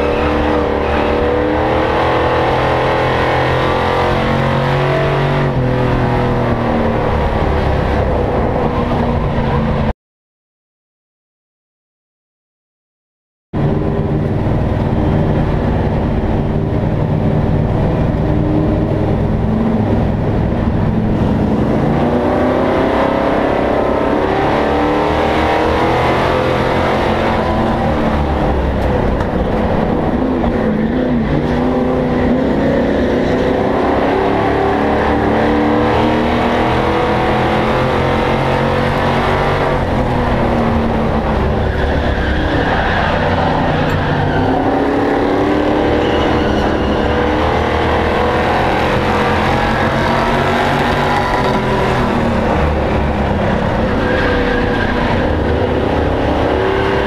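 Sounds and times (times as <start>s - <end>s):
race truck engine revving: 0.0s - 9.9s, 13.6s - 57.0s.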